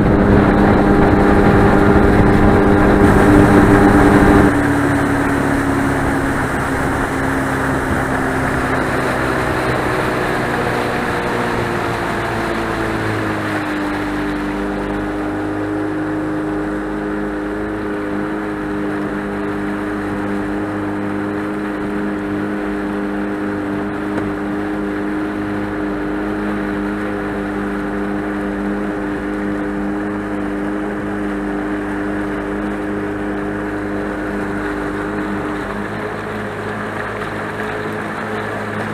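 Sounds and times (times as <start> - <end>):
boat motor running: 0.0 - 38.9
steady rushing noise: 0.0 - 38.9.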